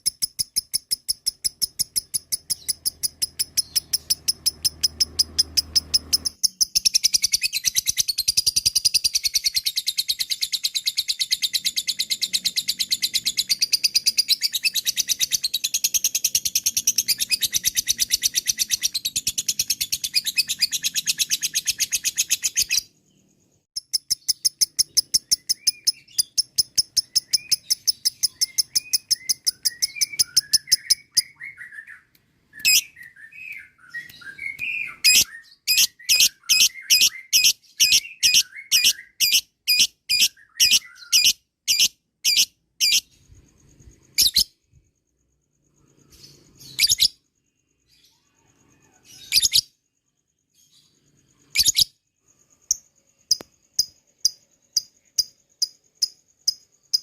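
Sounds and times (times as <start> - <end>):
soft bird twittering: 0.0 - 57.0.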